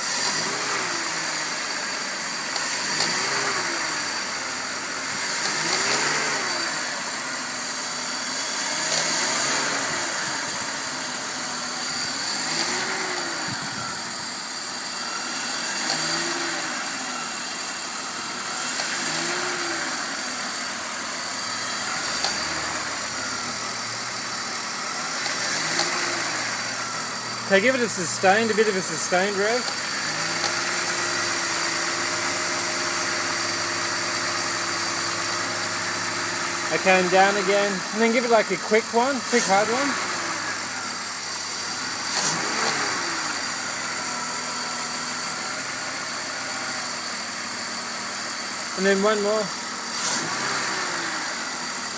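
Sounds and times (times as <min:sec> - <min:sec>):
car engine idling and revving: 0:00.0 - 0:51.9.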